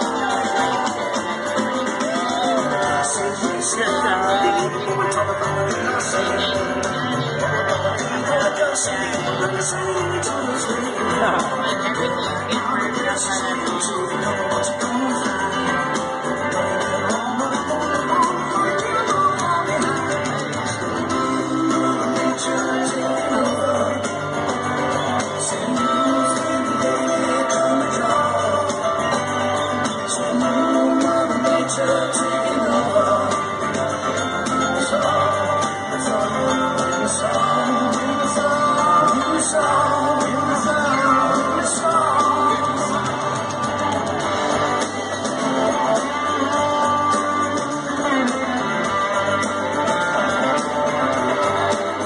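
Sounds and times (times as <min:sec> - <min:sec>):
distant live rock band: 0:00.0 - 0:52.0
electric guitar: 0:00.0 - 0:52.0.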